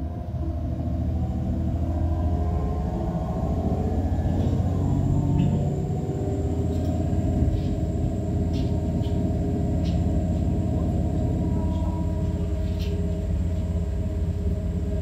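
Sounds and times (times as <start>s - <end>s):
diesel railcar engine droning: 0.0s - 15.0s
turbocharger whine: 0.0s - 15.0s.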